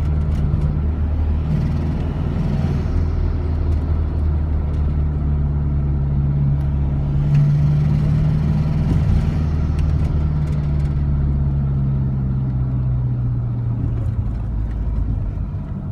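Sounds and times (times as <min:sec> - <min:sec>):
van engine droning: 0:00.0 - 0:15.9.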